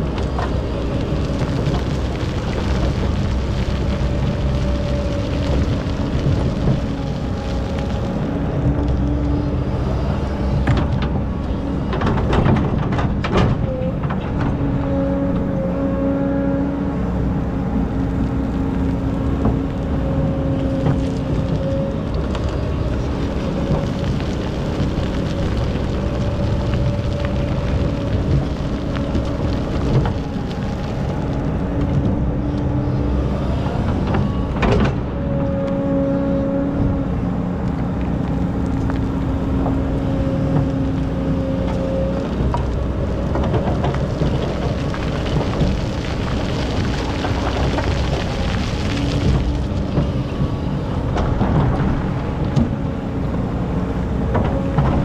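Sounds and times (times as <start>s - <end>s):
excavator engine running: 0.0s - 55.0s.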